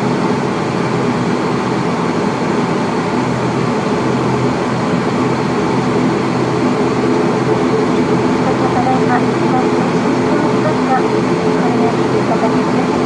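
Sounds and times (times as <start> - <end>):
low propeller hum: 0.0 - 13.0
turboprop engines droning: 0.0 - 13.0.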